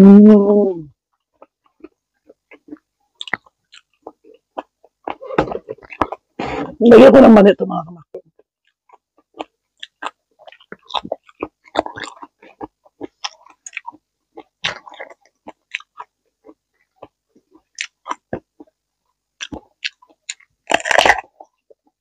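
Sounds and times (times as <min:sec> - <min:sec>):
person chewing crunchy vegetables: 0:01.2 - 0:06.5, 0:08.4 - 0:22.0.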